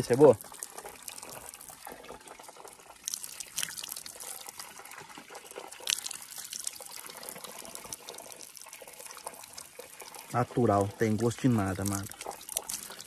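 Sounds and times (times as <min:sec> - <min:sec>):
sharp water splashes: 0:00.0 - 0:13.0
water trickling into hands: 0:00.0 - 0:13.0.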